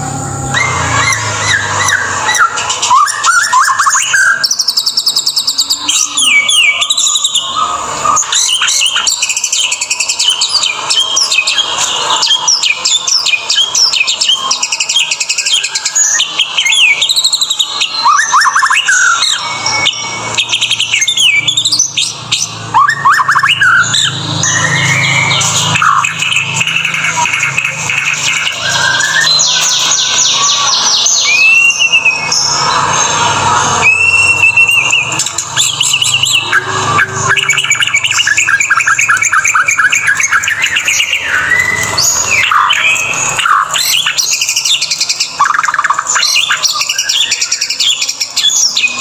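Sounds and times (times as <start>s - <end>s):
songbird singing trills and whistles: 0.2s - 49.0s.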